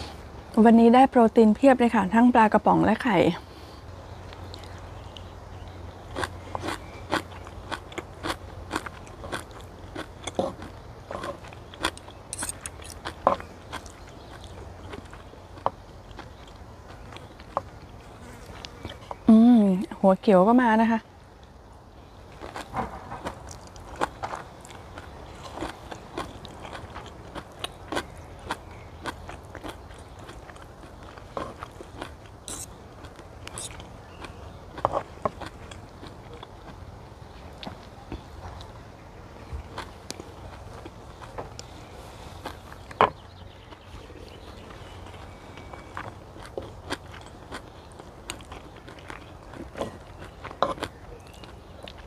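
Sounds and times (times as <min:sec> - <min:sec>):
person chewing crunchy food: 0:03.8 - 0:19.3, 0:21.4 - 0:38.8, 0:39.4 - 0:52.0.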